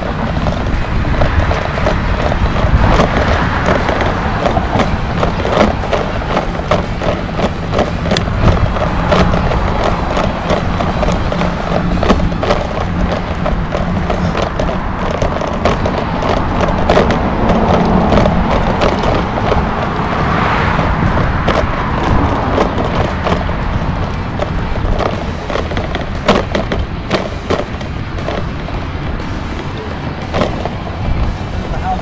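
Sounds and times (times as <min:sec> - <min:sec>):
bicycle rattling clicks: 0:00.0 - 0:32.0
tyres rolling over pavement: 0:00.0 - 0:32.0
wind on microphone: 0:00.0 - 0:32.0.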